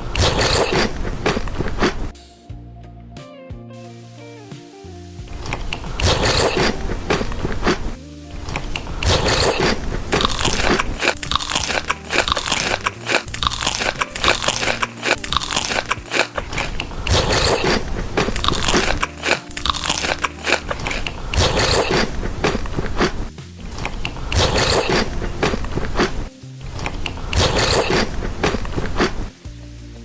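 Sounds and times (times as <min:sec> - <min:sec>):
person chewing crisp food: 0:00.0 - 0:02.0, 0:05.3 - 0:29.3.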